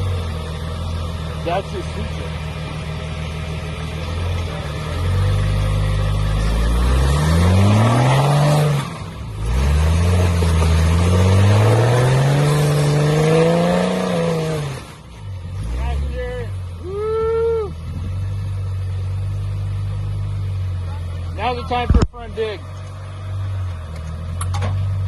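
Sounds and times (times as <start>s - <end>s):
engine revving under load: 0.0s - 25.0s.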